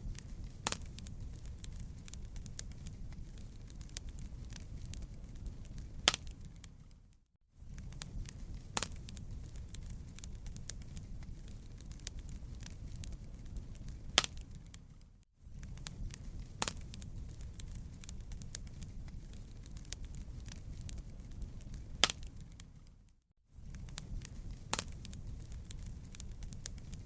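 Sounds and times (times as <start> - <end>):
sharp pops of fire: 0.0 - 7.0, 7.6 - 22.9, 23.6 - 27.0
fire crackling: 0.0 - 27.0.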